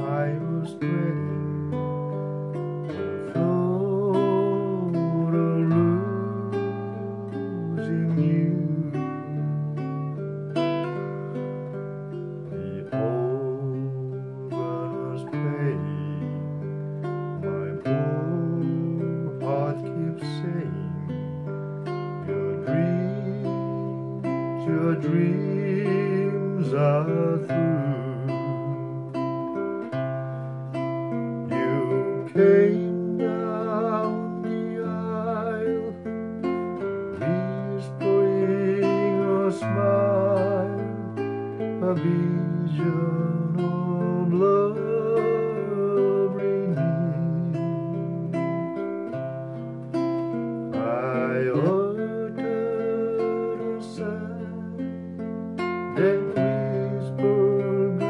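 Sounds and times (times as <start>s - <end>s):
man singing: 0.0s - 11.4s, 12.1s - 58.0s
classical guitar chords: 0.0s - 58.0s.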